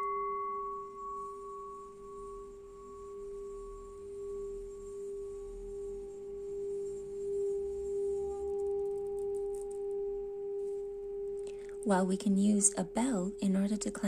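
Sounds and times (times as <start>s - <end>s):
singing bowl ringing: 0.0s - 13.9s.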